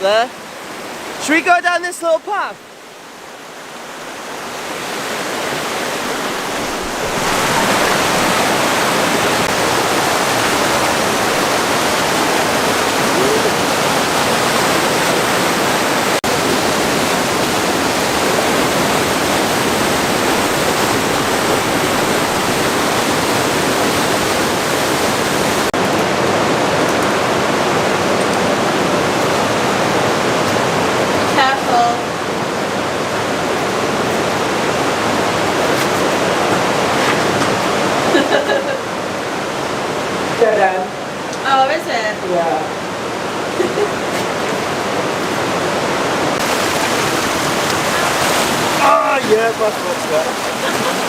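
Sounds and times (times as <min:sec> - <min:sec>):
fast-flowing river rushing: 0:00.0 - 0:51.0.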